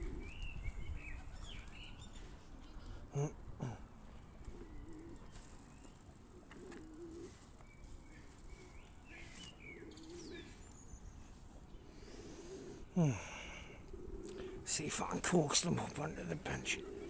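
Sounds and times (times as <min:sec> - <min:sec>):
pigeons cooing: 0:00.0 - 0:17.0
small birds chirping: 0:00.0 - 0:17.0.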